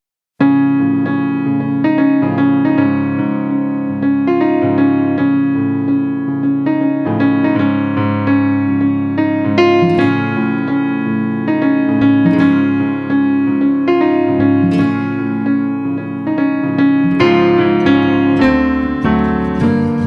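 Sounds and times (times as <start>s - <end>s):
piano-like keyboard music: 0.4s - 20.0s.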